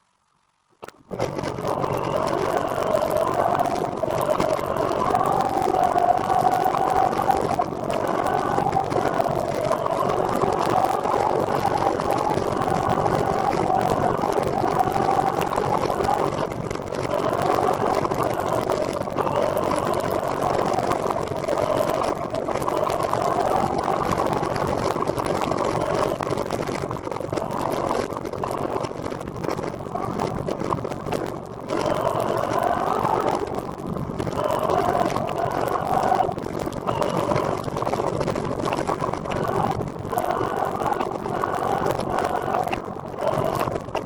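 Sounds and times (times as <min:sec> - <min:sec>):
faint hum: 0:00.0 - 0:44.0.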